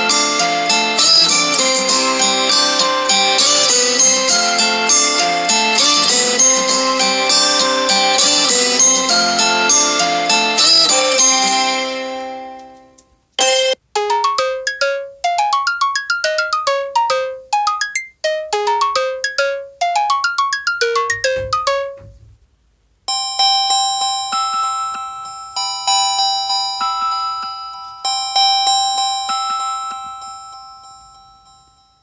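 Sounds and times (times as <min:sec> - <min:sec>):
chime-like ringtone: 0:00.0 - 0:12.6, 0:13.4 - 0:22.1, 0:23.1 - 0:32.0
fast ringtone melody: 0:00.0 - 0:12.6, 0:13.4 - 0:22.2, 0:23.1 - 0:32.0.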